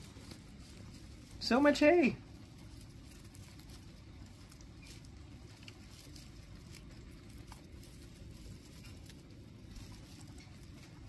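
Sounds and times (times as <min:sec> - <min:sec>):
guinea pigs rustling in hay: 0:00.0 - 0:11.0
low steady hum: 0:00.0 - 0:11.0.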